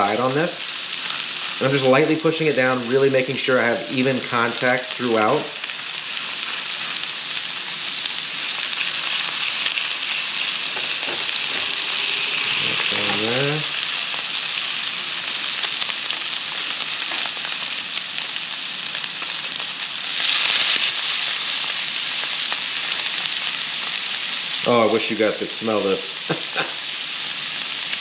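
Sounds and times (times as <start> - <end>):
steak sizzling in a skillet: 0.0 - 28.0.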